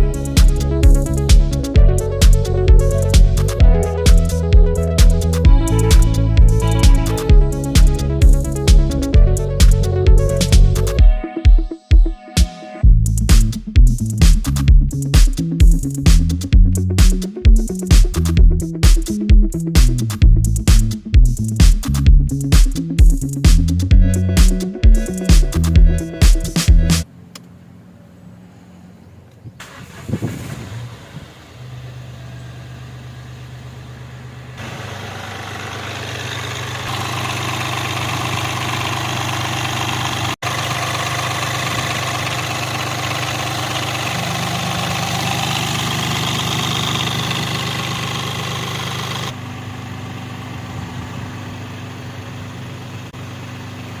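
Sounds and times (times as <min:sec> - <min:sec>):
diesel engine starting and running: 0:00.0 - 0:11.2, 0:12.8 - 0:54.0.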